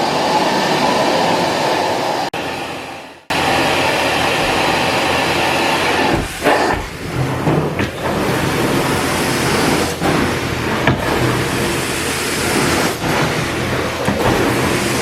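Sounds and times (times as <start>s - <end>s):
extraction machine vacuum running: 0.0s - 15.0s.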